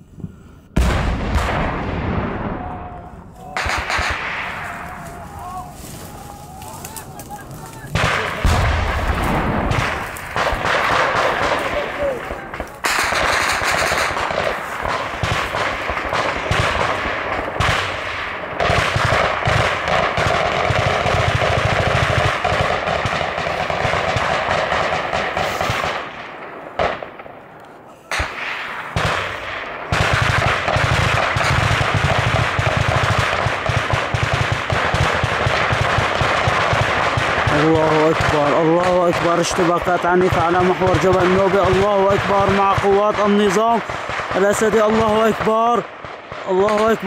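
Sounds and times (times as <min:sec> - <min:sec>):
automatic weapons fire: 0:03.6 - 0:05.1, 0:07.9 - 0:27.2, 0:28.1 - 0:47.0.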